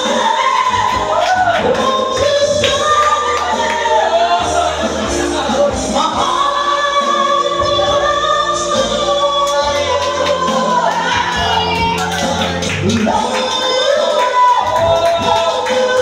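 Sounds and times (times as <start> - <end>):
backing music: 0.0 - 16.0
man singing into microphone: 0.0 - 16.0.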